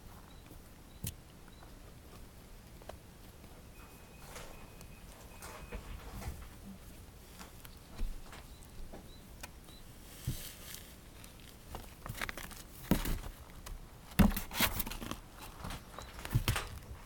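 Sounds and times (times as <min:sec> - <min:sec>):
kittens tapping and rustling: 0:00.0 - 0:17.0.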